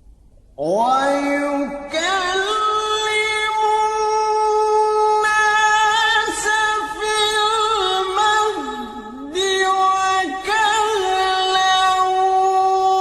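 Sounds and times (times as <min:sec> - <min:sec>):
man reciting melodically: 0:00.6 - 0:13.0.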